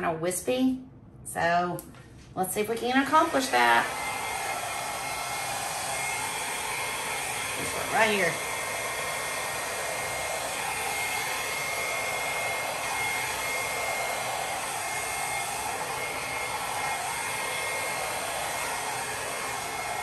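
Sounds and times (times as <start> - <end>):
hair dryer running: 2.6 - 20.0.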